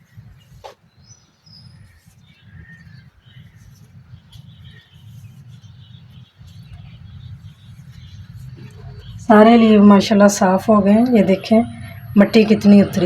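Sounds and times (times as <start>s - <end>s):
small birds chirping: 0.0s - 13.0s
steady low rumble: 1.6s - 13.0s.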